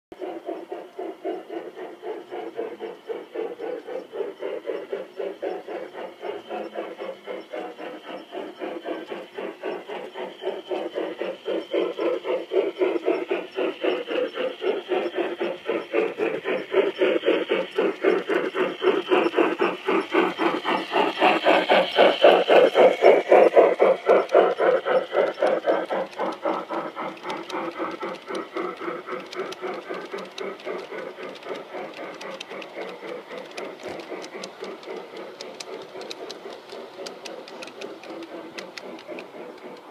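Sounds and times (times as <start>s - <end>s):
model steam locomotive chuffing: 0.1s - 39.9s.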